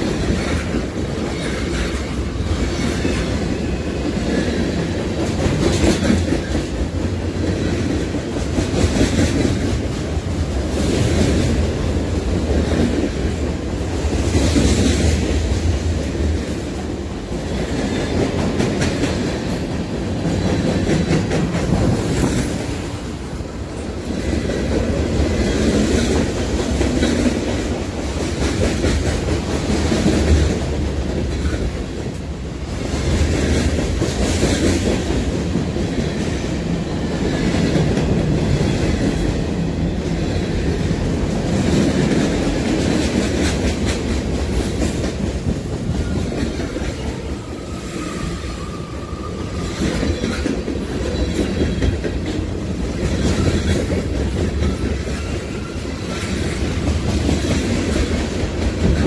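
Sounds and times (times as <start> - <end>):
freight train rumbling: 0.0 - 59.0
steel wheels clattering on rails: 0.0 - 59.0.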